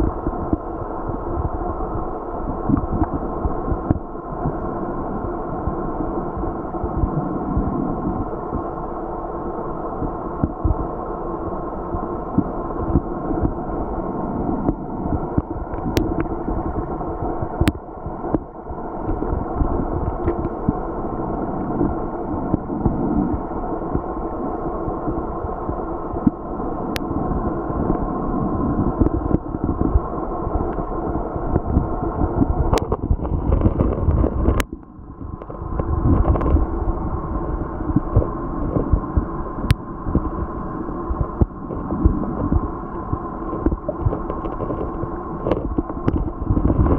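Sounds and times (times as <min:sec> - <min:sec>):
low underwater noise: 0:00.0 - 0:46.9.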